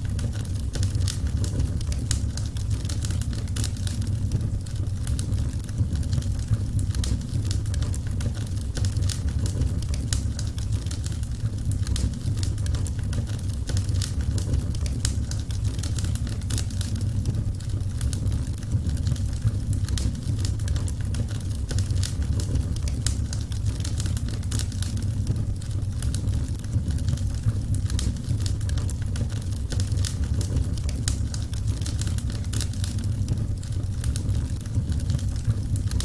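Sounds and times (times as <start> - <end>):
low rumble of flames: 0.0 - 36.0
wood crackling and popping: 0.0 - 36.0.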